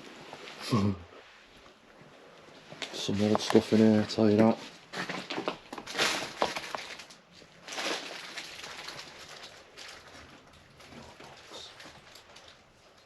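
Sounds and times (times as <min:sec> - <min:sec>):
rustle of handled clutter: 0:01.5 - 0:13.0.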